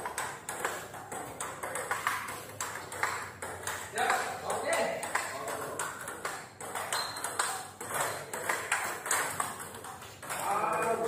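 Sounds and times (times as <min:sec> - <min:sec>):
table tennis ball clicking: 0:00.0 - 0:11.0.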